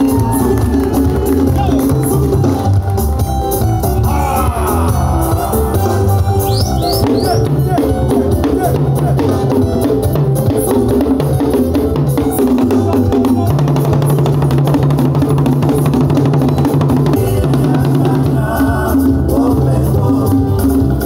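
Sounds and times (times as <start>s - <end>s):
fast hand drumming: 0.0s - 19.2s
music with bass line: 0.0s - 21.0s.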